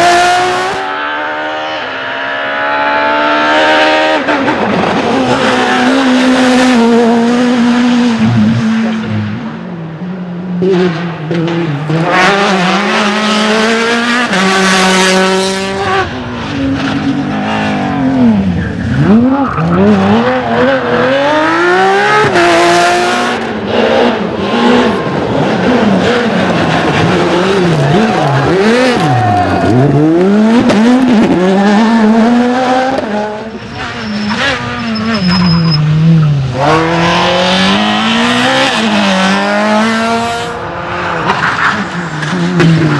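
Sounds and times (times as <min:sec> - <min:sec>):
rally car engines accelerating: 0:00.0 - 0:42.9.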